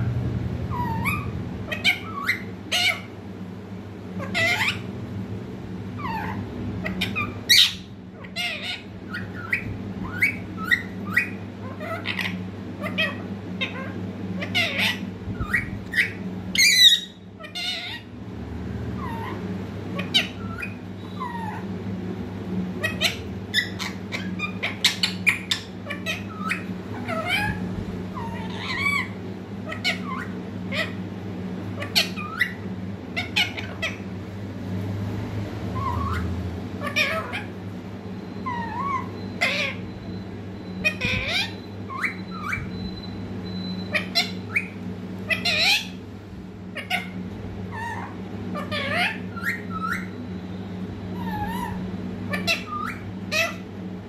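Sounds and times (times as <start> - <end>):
parakeet chirping and squawking: 0.0 - 54.0.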